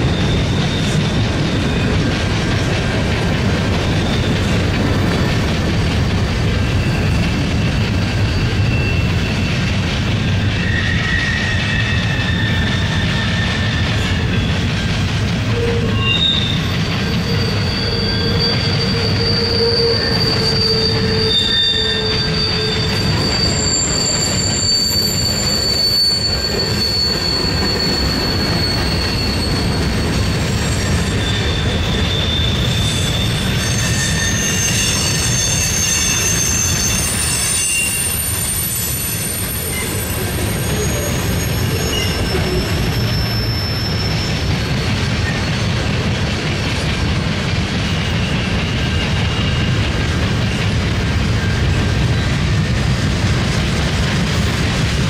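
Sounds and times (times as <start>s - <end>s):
shrill wheel squeals: 0.0s - 2.3s, 3.4s - 47.0s, 47.6s - 55.0s
freight train rumbling on rails: 0.0s - 55.0s.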